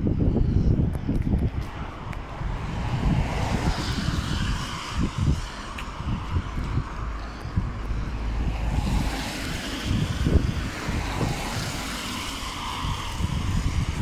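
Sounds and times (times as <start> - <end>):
wind rumble on microphone: 0.0 - 14.0
cars driving past: 1.5 - 14.0.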